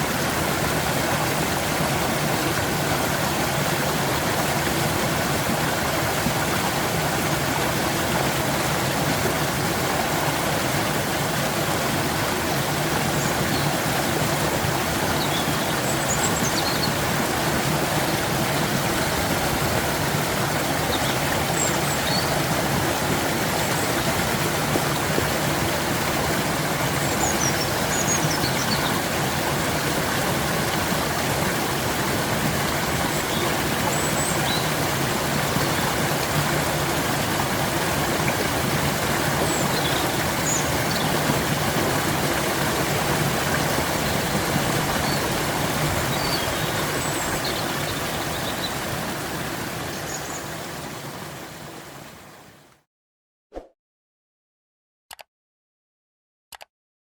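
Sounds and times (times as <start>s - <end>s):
stream water rushing: 0.0s - 52.6s.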